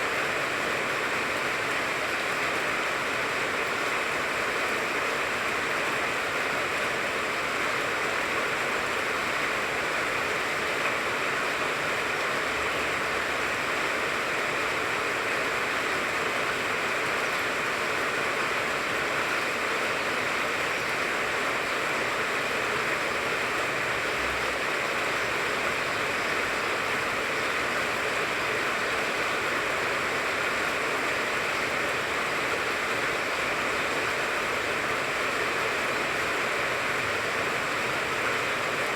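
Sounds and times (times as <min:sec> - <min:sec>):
rain falling on a tree: 0:00.0 - 0:38.9.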